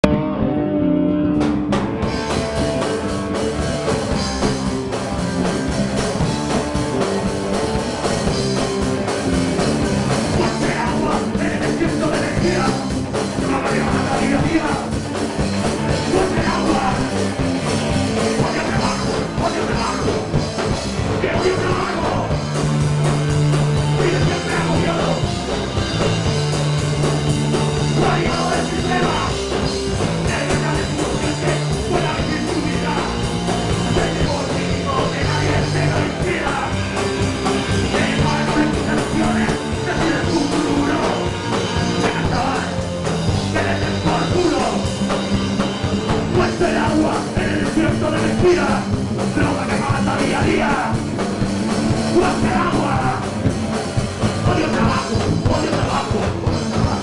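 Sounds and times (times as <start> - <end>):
punk rock band playing live: 0.0 - 57.0.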